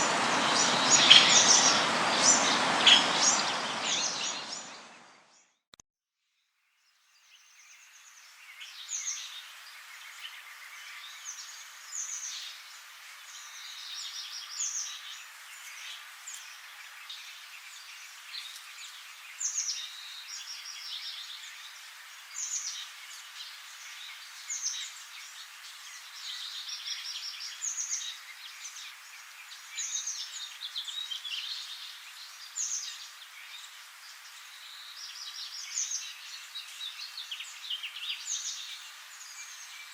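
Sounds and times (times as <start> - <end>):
steady hiss: 0.0 - 5.1, 7.6 - 39.9
small birds chirping: 0.0 - 5.6, 7.1 - 39.9.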